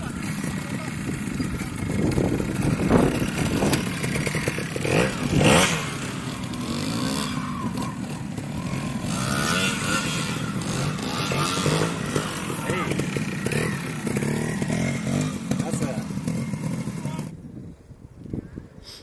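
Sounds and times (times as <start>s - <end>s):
motorcycle engine revving: 0.0s - 17.5s.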